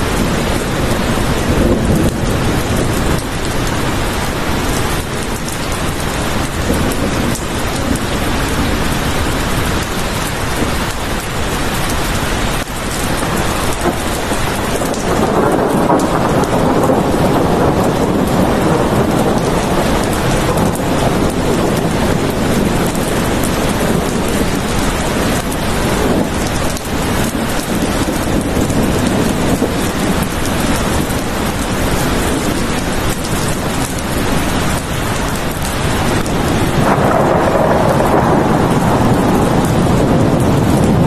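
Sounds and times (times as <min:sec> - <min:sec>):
heavy rainfall: 0:00.0 - 0:41.0.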